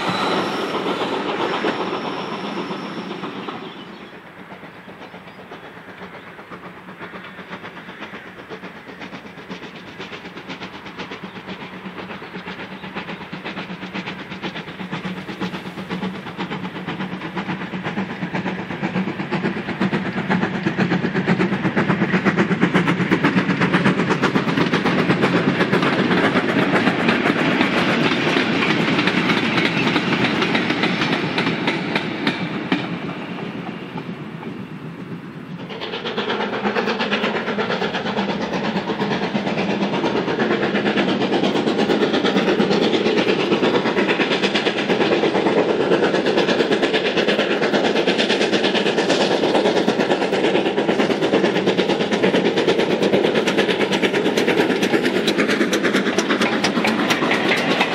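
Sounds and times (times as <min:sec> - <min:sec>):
steam locomotive chuffing: 0:00.0 - 0:57.9
train wheels on rails: 0:00.0 - 0:57.9.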